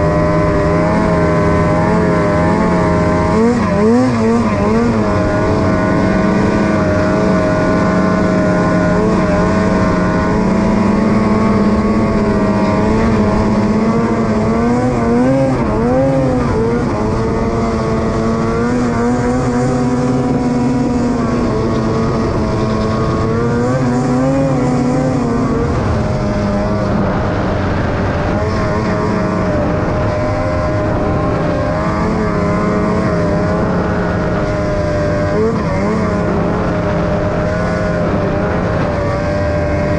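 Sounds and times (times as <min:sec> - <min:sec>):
snowmobile engine at high revs: 0:00.0 - 0:39.9.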